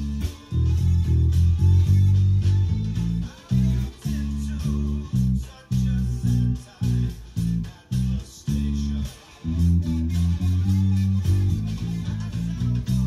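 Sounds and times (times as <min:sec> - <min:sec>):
electric bass plucked notes: 0:00.0 - 0:13.0.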